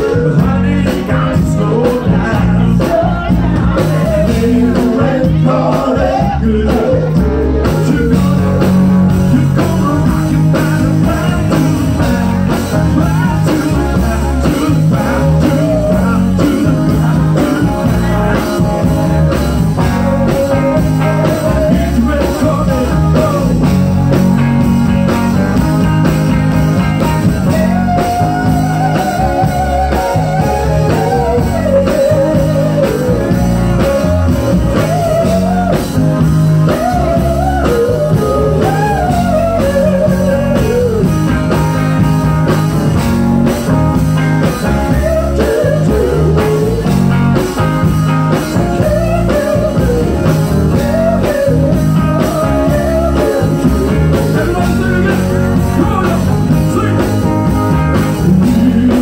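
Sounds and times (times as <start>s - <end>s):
bass and drum groove: 0.0s - 59.0s
electric guitar lead lines: 0.0s - 59.0s.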